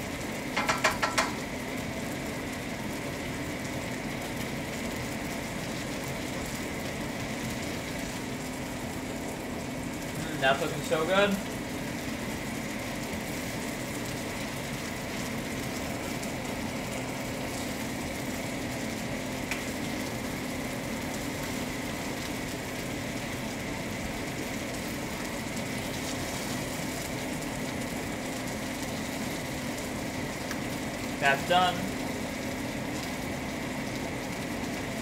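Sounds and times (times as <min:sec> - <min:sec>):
chicken sizzling in skillet: 0:00.0 - 0:35.0
steady hum: 0:00.0 - 0:35.0.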